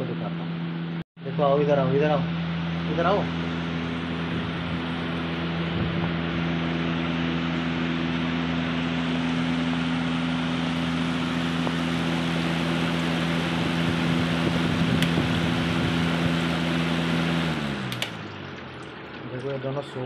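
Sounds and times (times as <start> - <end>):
fan air rushing: 0.0 - 20.0
low motor hum: 0.0 - 20.0.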